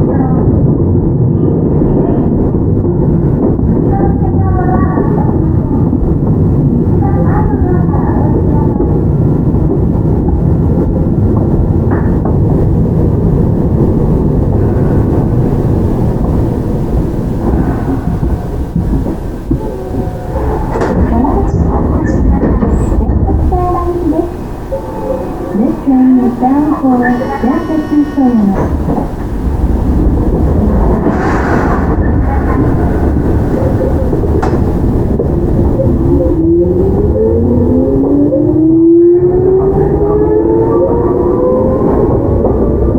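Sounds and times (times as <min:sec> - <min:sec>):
train wheels rumbling on rail: 0:00.0 - 0:42.9
train motor hum: 0:00.9 - 0:42.9.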